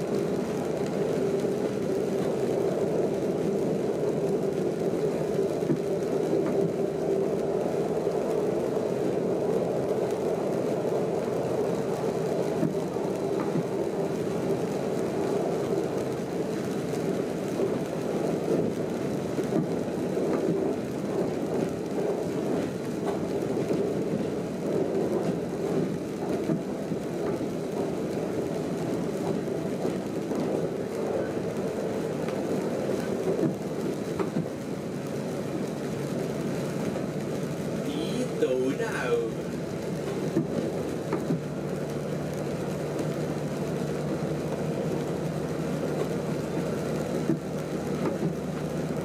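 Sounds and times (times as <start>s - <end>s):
heavy rain on cab: 0.0s - 49.0s
train rolling rumble and hum: 0.0s - 49.0s.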